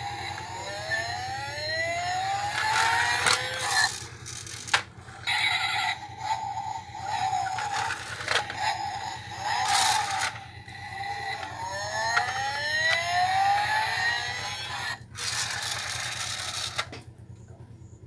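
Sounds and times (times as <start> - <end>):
scraping whirring rush: 0.0 - 16.9
toy friction motor whirring: 0.0 - 17.0.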